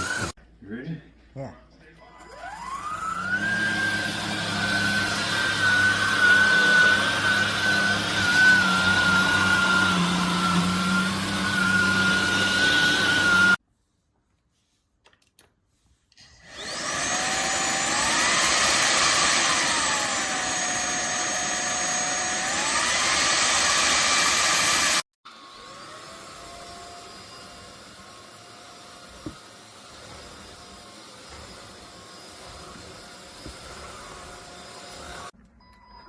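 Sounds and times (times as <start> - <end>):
vacuum motor whining: 0.0 - 0.4, 2.2 - 13.6, 16.3 - 35.4.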